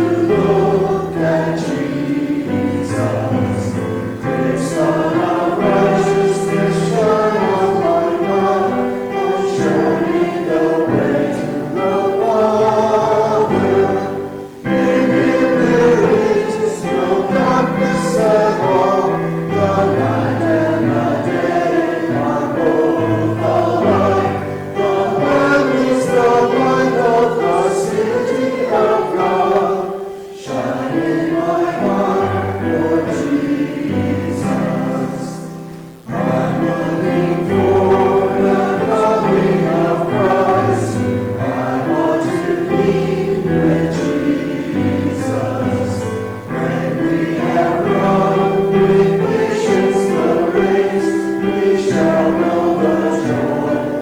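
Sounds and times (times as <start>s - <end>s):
congregation singing a hymn: 0.0s - 54.0s
piano accompaniment: 0.0s - 54.0s.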